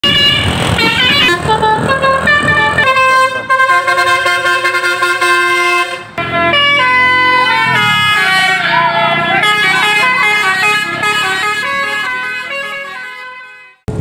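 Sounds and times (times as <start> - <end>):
multi-tone bus horn: 0.0 - 14.0.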